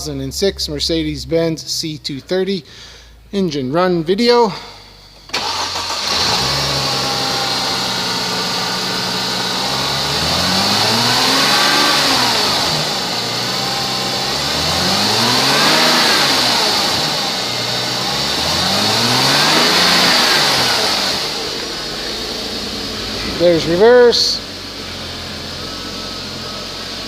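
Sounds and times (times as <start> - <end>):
car engine idling and revving: 5.0 - 27.0.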